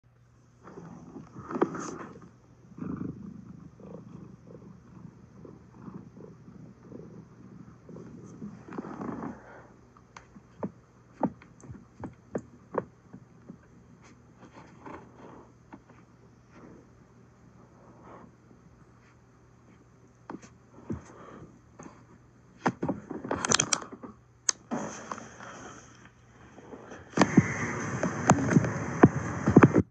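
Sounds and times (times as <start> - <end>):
cat purring: 0.6 - 23.5, 24.8 - 29.9.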